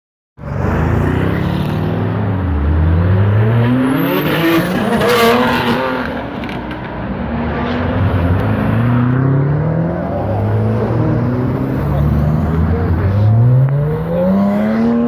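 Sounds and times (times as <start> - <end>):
sports car engines accelerating: 0.4 - 15.0.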